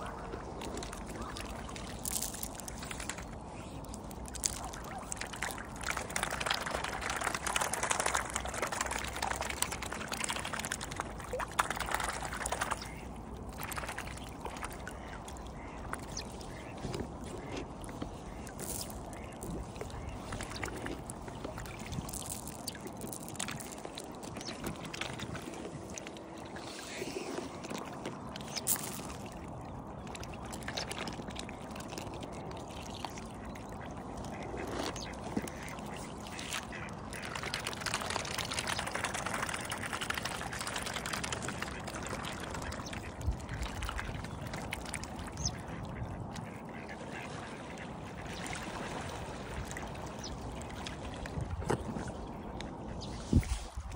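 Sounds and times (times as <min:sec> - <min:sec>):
water splashing and lapping: 0:00.0 - 0:53.9.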